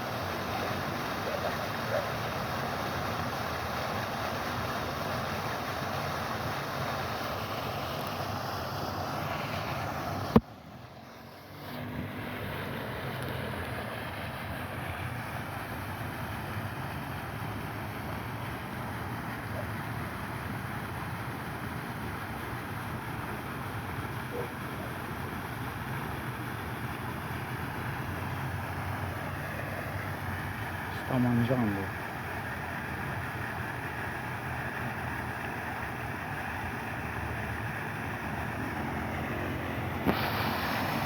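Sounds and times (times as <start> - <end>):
rushing outdoor noise: 0.0 - 41.0.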